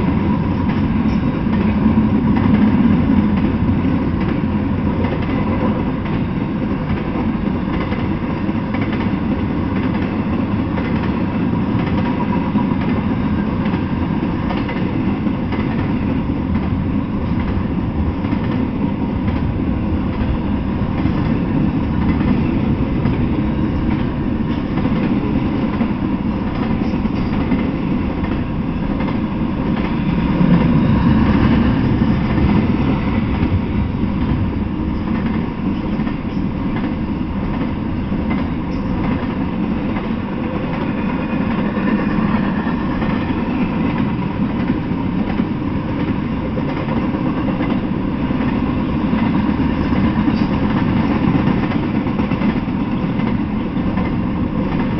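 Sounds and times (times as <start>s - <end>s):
freight train wheels on rails: 0.0s - 54.9s.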